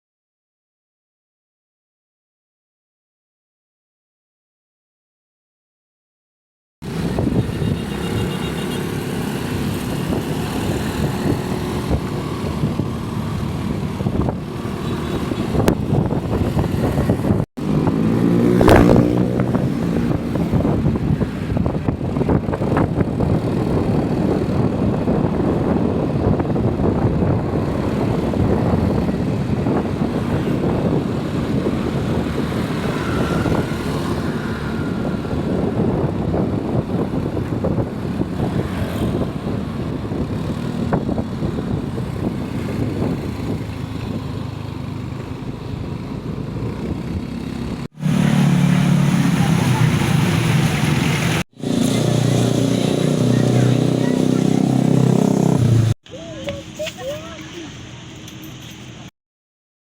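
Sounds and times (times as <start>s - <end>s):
motor vehicle running: 6.8s - 59.1s.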